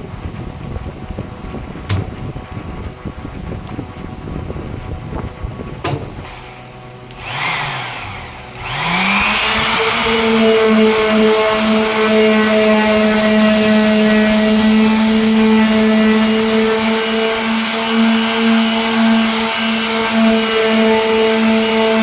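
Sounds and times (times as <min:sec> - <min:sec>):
electric sander motor whining: 0:00.0 - 0:22.0.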